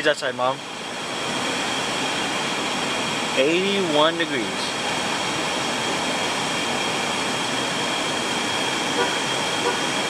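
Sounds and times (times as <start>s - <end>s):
car air conditioning blower hissing: 0.0s - 10.0s.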